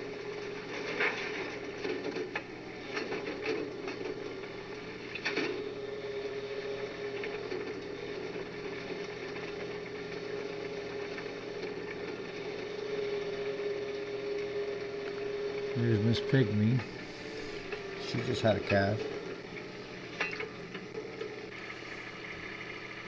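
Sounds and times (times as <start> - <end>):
excavator engine whine: 0.0 - 23.0.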